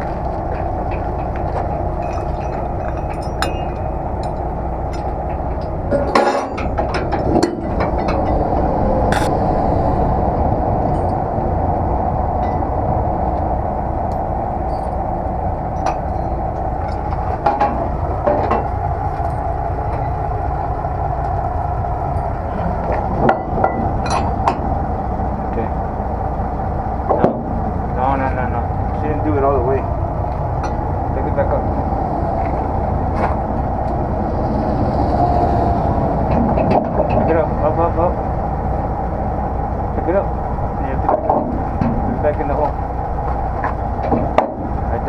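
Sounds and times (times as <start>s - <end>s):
truck engine and road drone: 0.0s - 45.0s.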